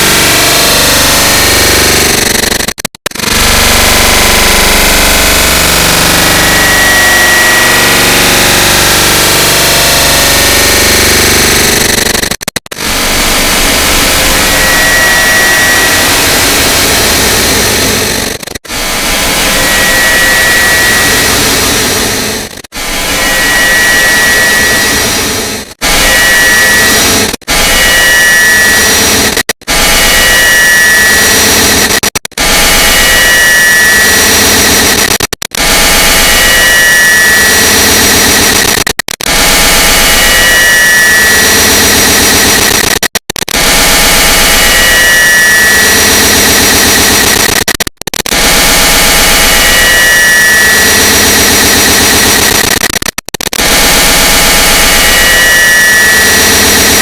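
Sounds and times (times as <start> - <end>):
harsh layered click noise: 0.0 - 57.0.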